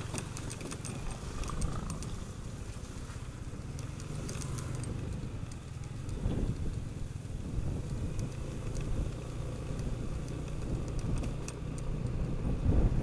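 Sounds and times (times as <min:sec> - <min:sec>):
clicks and knocks of jolting scooter: 0:00.0 - 0:02.5, 0:03.2 - 0:11.8
scooter engine running: 0:00.0 - 0:13.0.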